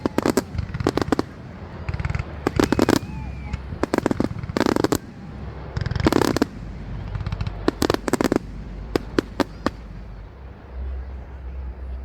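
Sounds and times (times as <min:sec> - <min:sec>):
fireworks crackling bangs: 0:00.0 - 0:10.6
low rumble: 0:00.0 - 0:12.0.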